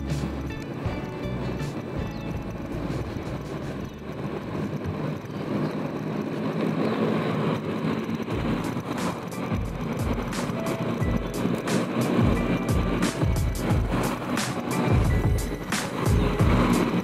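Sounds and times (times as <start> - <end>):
skate wheels rolling on asphalt: 0.0 - 17.0.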